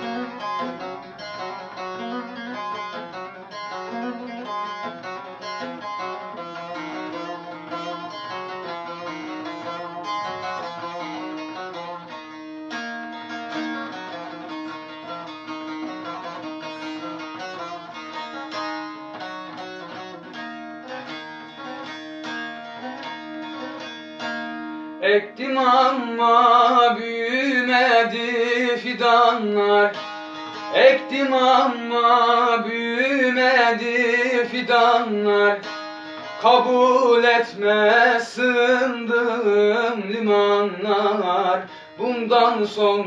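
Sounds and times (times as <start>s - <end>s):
plucked saz melody: 0.0s - 43.0s.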